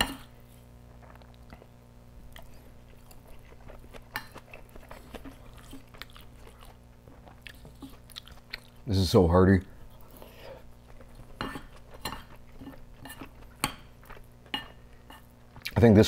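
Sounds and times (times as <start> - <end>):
chewing with mouth clicks: 0.0 - 8.9, 9.8 - 15.8
low steady hum: 0.0 - 16.0.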